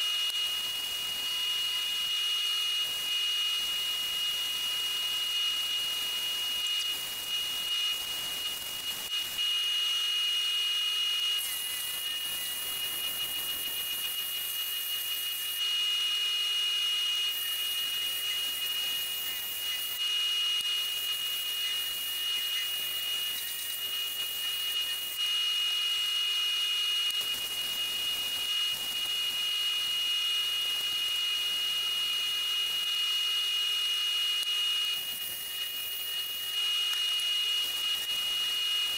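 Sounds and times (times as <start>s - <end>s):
wood lathe whine: 0.0s - 38.9s.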